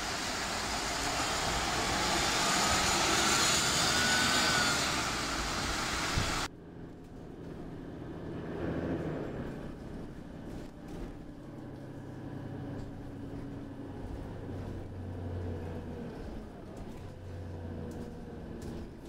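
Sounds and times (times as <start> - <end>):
bus engine drone: 0.0 - 19.0
faint drivetrain whine: 0.0 - 19.0
road rumble: 0.0 - 19.0.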